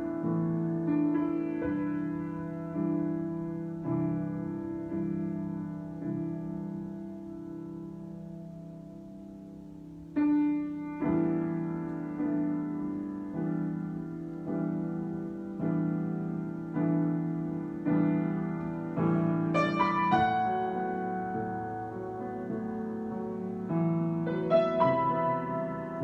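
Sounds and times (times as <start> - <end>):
solo piano chords: 0.0 - 26.0.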